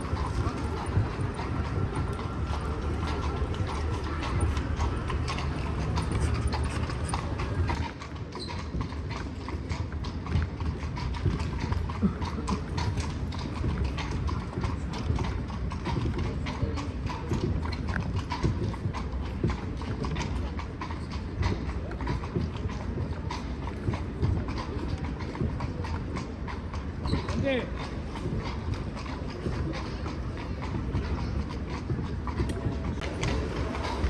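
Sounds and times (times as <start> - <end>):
horse hooves clip-clopping: 0.0 - 34.0.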